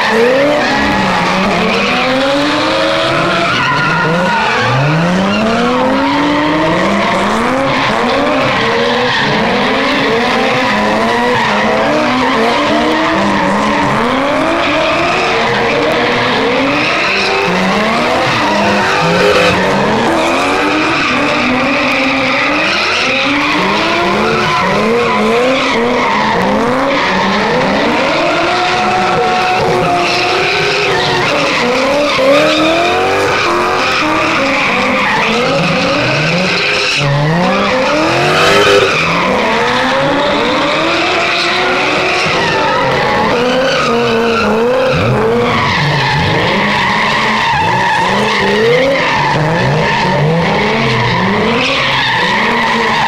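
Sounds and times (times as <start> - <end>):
car engine revving hard: 0.0 - 53.0
tyres squealing: 0.0 - 53.0.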